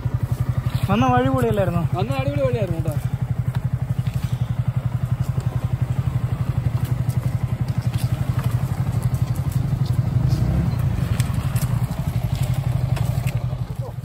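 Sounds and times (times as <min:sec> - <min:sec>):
motorcycle engines at low revs: 0:00.0 - 0:14.0.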